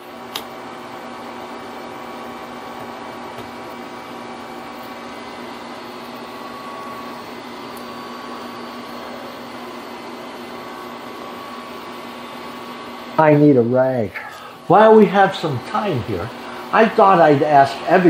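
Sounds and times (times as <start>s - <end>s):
fan humming: 0.0s - 18.0s.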